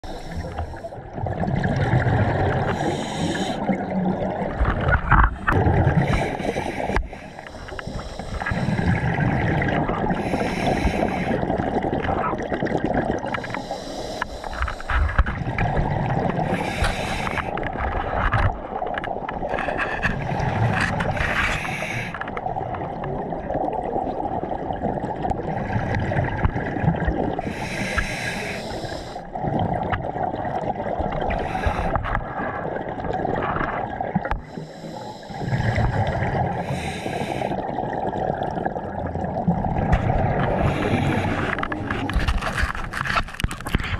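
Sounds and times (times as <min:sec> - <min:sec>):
exhaled bubbles gurgling underwater: 0:00.0 - 0:43.9
low water noise: 0:00.0 - 0:43.9.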